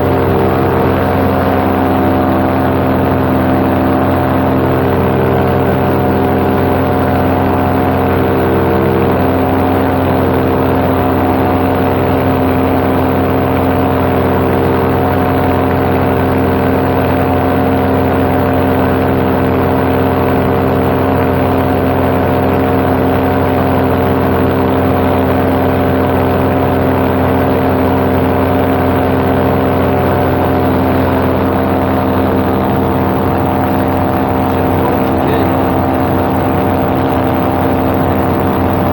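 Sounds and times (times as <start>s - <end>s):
paramotor engine drone: 0.0s - 38.9s.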